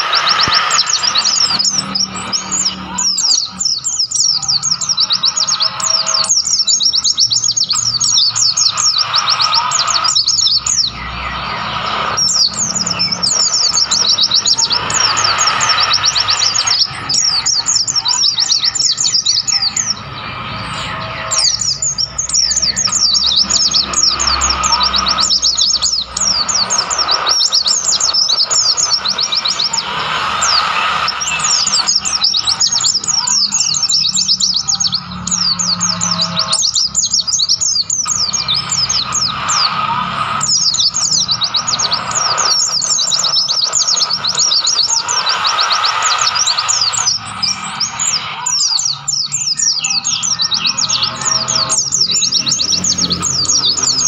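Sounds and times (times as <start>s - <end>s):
bird twittering chirps: 0.0s - 54.0s.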